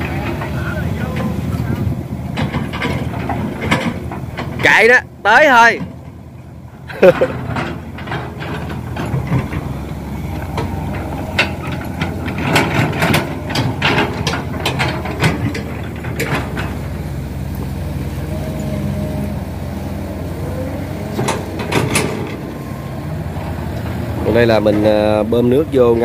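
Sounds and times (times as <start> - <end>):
excavator diesel engine running: 0.0 - 26.0
metallic clanks and knocks: 0.0 - 26.0.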